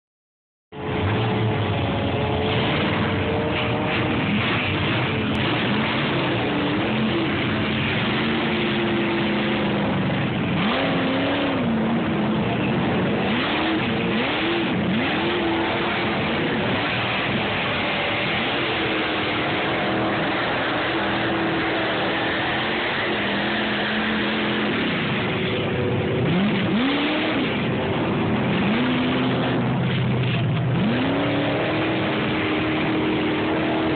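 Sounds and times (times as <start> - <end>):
truck engines revving: 0.7 - 33.9.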